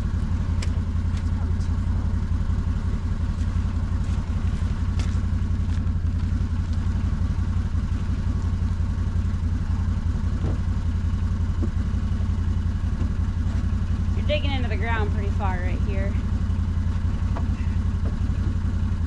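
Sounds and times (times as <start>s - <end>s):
machine engine droning: 0.0s - 19.0s.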